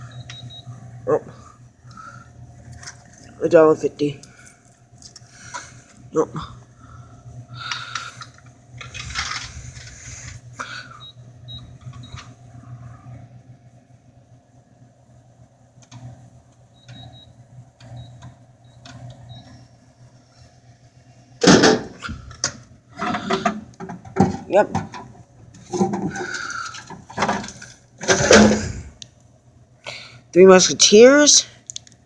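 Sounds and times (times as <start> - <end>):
vending machine motor hum: 0.0 - 32.0.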